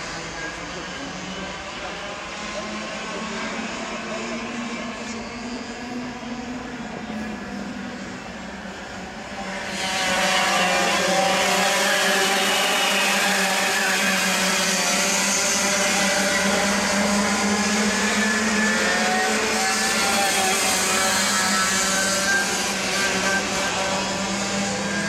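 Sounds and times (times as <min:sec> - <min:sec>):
kart engines at high revs: 0:00.0 - 0:25.0.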